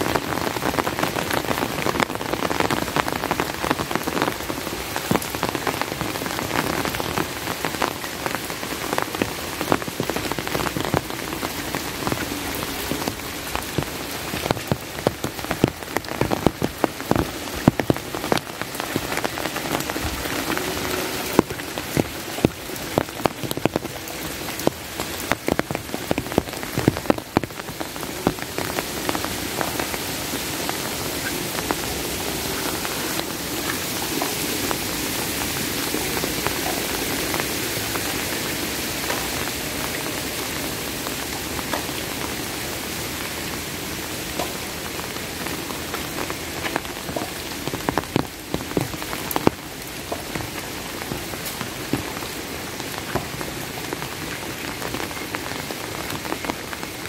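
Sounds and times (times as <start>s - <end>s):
raindrops hitting a surface: 0.0s - 57.0s
steady rain falling: 0.0s - 57.0s.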